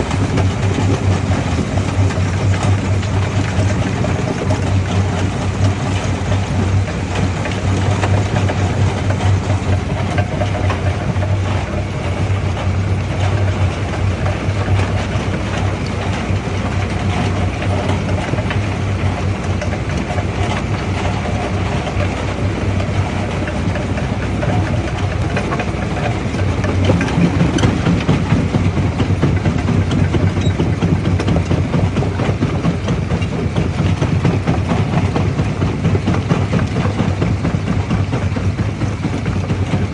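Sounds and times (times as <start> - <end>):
crusher machine hum: 0.0 - 39.9
rocks rattling and knocking: 0.0 - 39.9.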